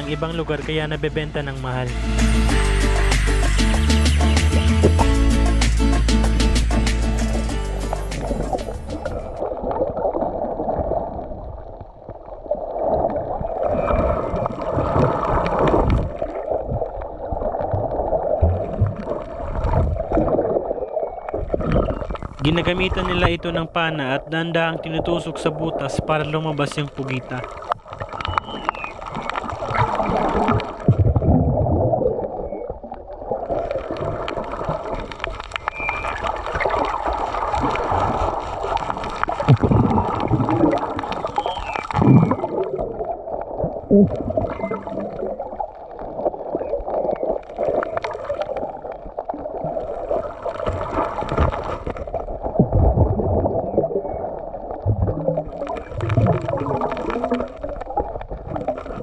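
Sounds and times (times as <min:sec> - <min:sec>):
muffled underwater rushing water: 0:04.5 - 0:59.0.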